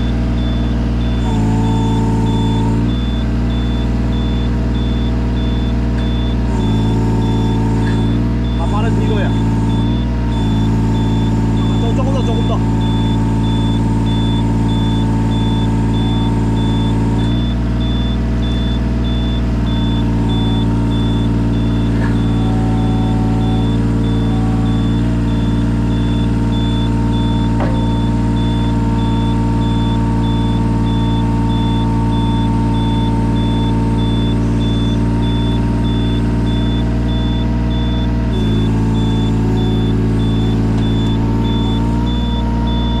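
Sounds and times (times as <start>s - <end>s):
excavator diesel engine running: 0.0s - 43.0s
high beep: 0.0s - 43.0s.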